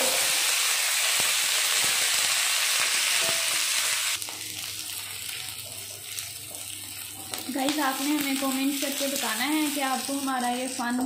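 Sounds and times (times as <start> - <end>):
okra sizzling in hot oil: 0.0 - 11.0.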